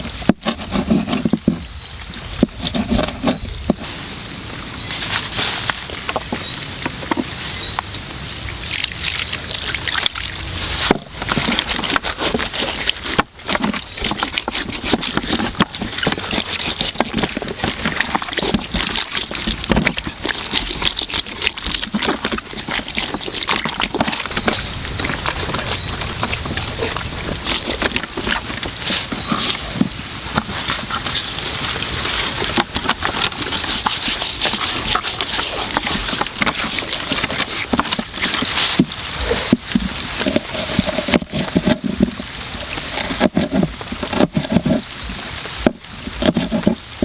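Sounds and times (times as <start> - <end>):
water sloshing and splashing: 0.0 - 47.0.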